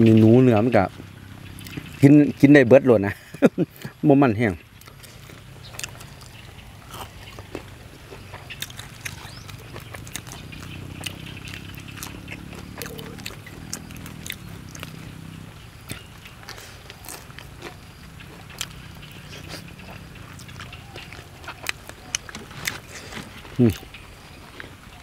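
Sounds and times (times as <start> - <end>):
crunchy chewing and mouth smacks: 1.4 - 2.0, 4.8 - 25.0.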